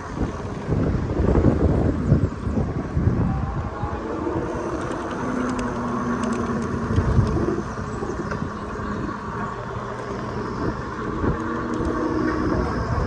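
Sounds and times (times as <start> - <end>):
vehicles passing with low rumble: 0.0 - 13.0.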